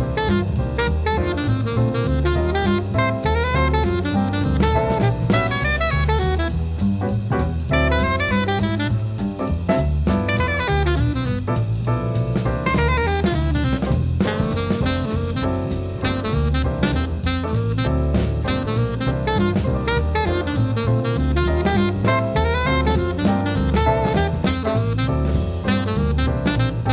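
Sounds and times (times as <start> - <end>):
drum kit steady beat: 0.0 - 26.9
jazz music: 0.0 - 26.9.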